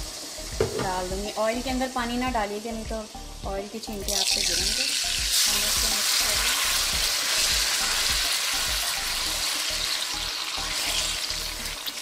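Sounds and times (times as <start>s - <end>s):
hot oil sizzling and spitting: 0.0s - 12.0s.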